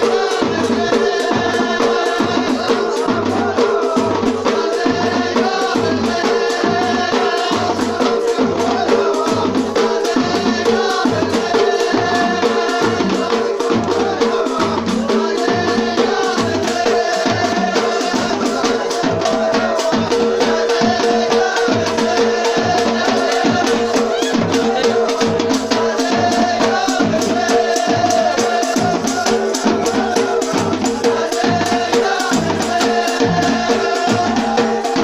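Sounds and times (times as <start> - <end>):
hand percussion: 0.0 - 35.0
regular drum beat: 0.0 - 35.0.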